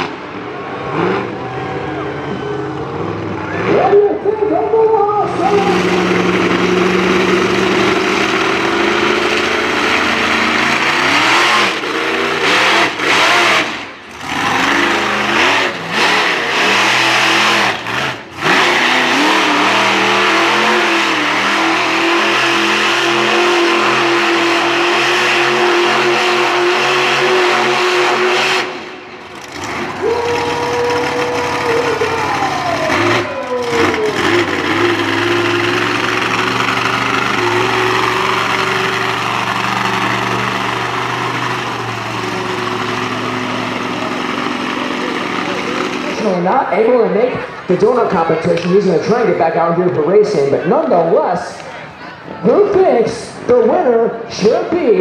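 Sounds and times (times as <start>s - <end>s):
monster truck engine revving: 0.0s - 55.0s.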